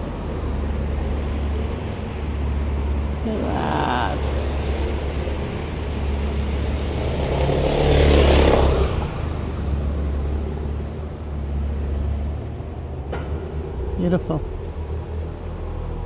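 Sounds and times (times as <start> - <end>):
car passing by: 0.0 - 16.0.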